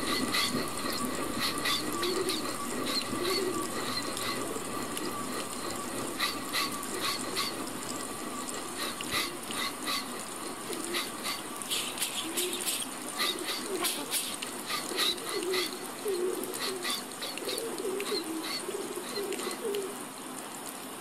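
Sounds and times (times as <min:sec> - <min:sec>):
mouth-made hiss: 0:00.0 - 0:20.0
soft low wavering sounds: 0:00.0 - 0:20.0.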